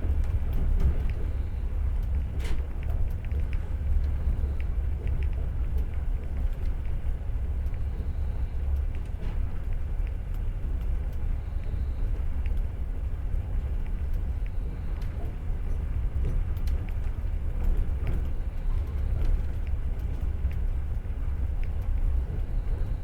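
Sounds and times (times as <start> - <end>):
faint clicks and rattles: 0.0 - 23.0
train rumbling: 0.0 - 23.0.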